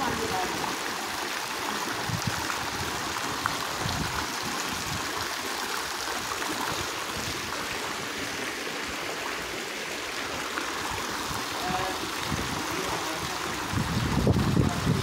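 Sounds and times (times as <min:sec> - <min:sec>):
water jets splashing into pool: 0:00.0 - 0:15.0.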